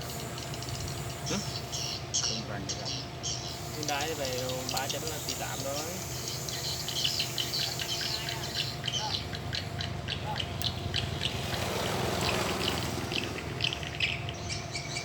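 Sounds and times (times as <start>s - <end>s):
low engine hum: 0.0s - 15.0s
small birds chirping: 0.0s - 15.0s.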